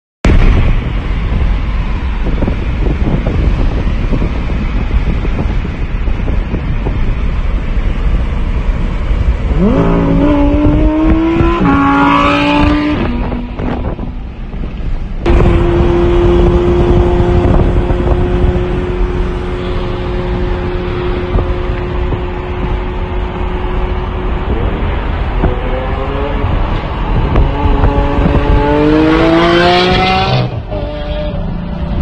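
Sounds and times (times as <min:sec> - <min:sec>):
wind and road noise: 0:00.2 - 0:32.0
engine high drone: 0:00.3 - 0:32.0
sports car engine accelerating: 0:00.6 - 0:32.0.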